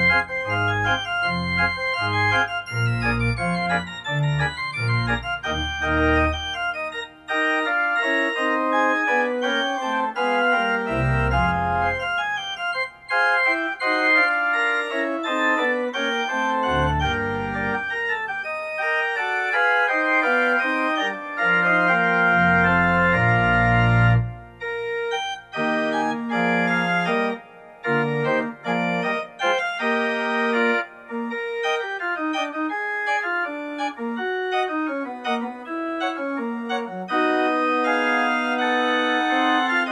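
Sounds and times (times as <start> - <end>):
deep organ pedal bass notes: 0.0 - 39.9
organ chords: 0.0 - 39.9.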